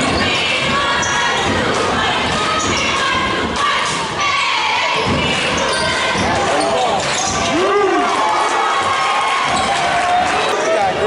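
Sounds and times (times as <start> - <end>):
crowd shouting and cheering: 0.0 - 11.0.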